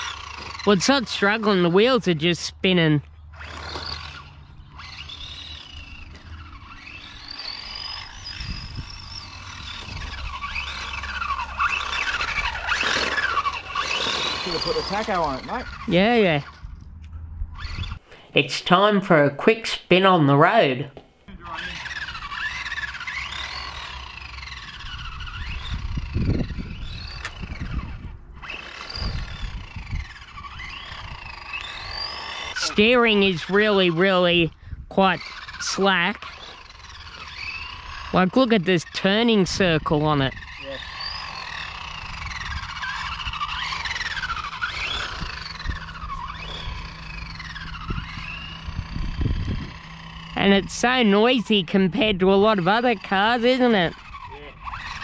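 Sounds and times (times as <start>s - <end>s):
tyres rumbling on asphalt: 0.0s - 18.0s, 21.0s - 55.0s
rc car motor and gear whine: 0.0s - 55.0s.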